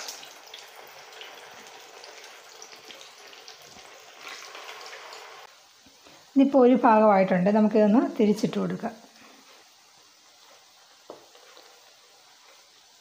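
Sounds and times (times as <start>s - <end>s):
food sizzling in deep fryer: 0.0s - 13.0s.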